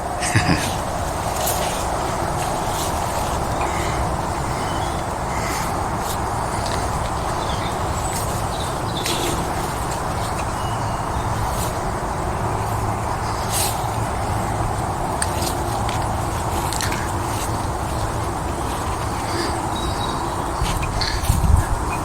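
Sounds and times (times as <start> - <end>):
crisp swishes of vegetation: 0.4 - 21.8
footsteps through brush: 0.4 - 21.8.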